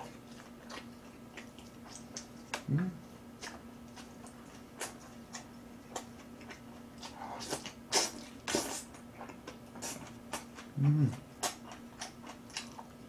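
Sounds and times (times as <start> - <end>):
wet chewing and lip smacks: 0.0 - 2.7, 3.3 - 13.0
steady low hum: 0.0 - 13.0.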